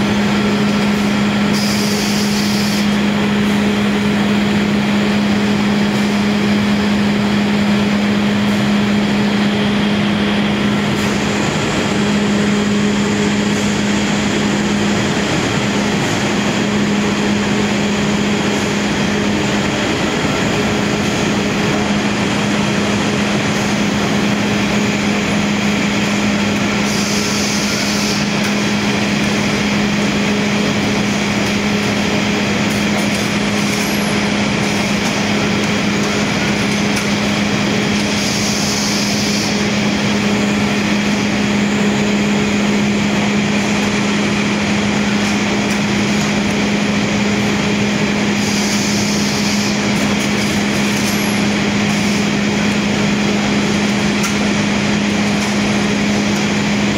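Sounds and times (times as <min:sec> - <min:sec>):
factory machinery drone: 0:00.0 - 0:56.9.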